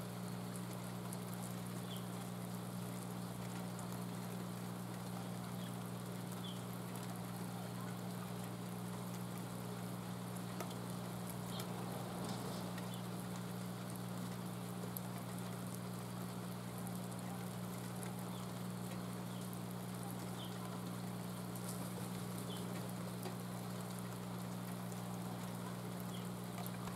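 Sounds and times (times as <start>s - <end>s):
light rain pattering: 0.0s - 26.9s
water drips ticking: 0.3s - 26.9s.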